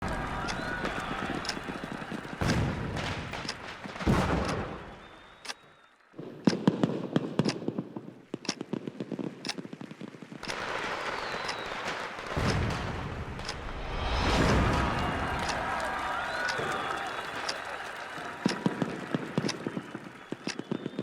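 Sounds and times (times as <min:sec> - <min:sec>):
fireworks crackling pops: 0:00.0 - 0:21.0
fireworks heavy bangs: 0:00.0 - 0:21.0.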